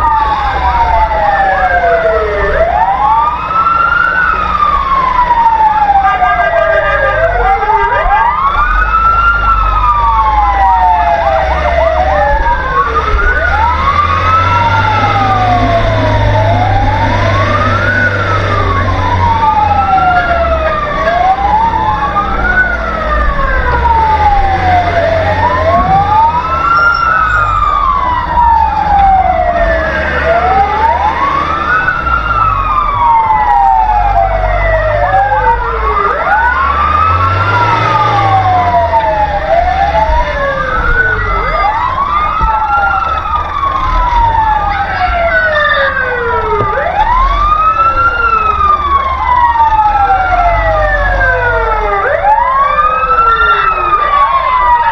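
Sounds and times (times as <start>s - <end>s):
fire engine sirens wailing: 0.0s - 54.9s
truck rumbling: 0.0s - 54.9s.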